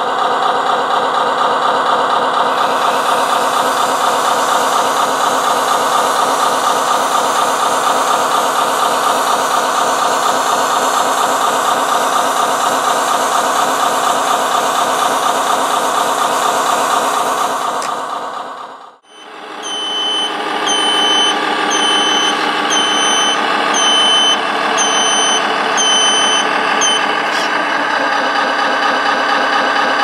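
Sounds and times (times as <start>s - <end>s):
diesel engine idle through speaker: 0.0s - 30.0s.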